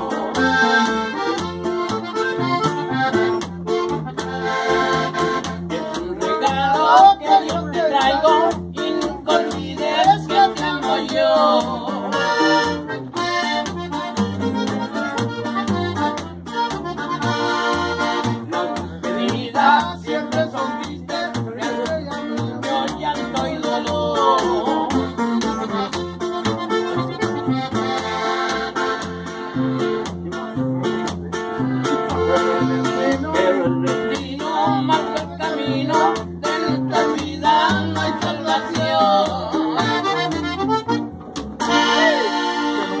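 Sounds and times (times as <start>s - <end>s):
button accordion melody: 0.0s - 43.0s
pulsing bass line: 0.0s - 43.0s
strummed guitar: 0.0s - 43.0s.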